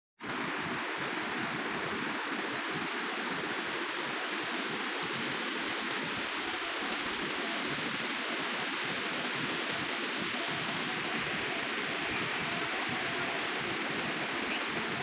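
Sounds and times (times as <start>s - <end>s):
fast river rushing: 0.3s - 15.0s.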